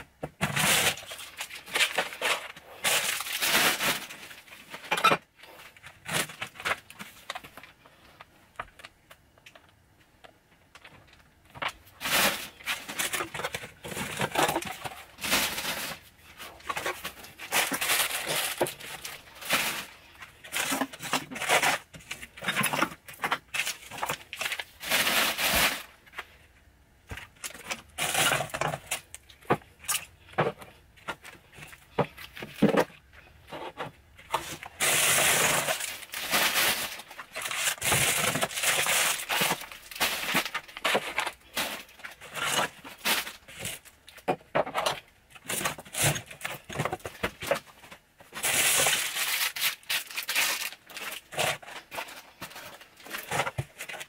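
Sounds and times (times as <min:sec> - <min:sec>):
plastic packets crinkling: 0:00.4 - 0:09.7, 0:10.7 - 0:26.4, 0:27.1 - 0:33.2, 0:34.2 - 0:54.0.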